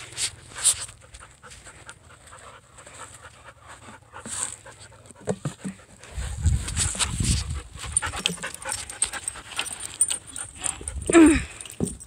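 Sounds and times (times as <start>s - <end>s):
dog panting: 0.8s - 11.1s.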